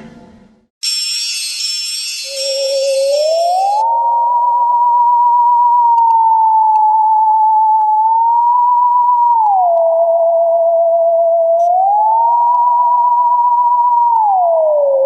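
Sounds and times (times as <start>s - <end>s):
theremin-style electronic tone: 0.8s - 15.0s.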